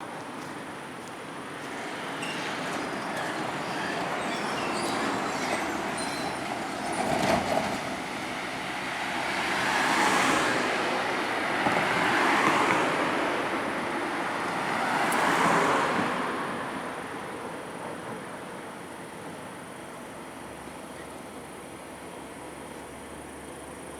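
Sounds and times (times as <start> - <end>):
road vehicles going by: 0.0 - 23.9.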